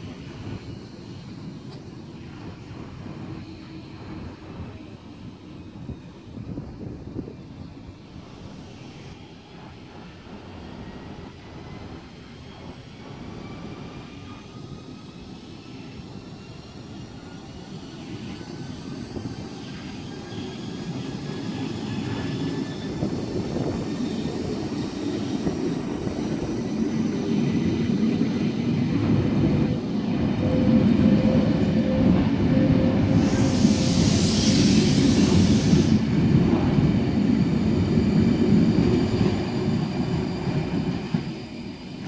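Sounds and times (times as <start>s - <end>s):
train wheel and running noise: 0.0s - 42.0s.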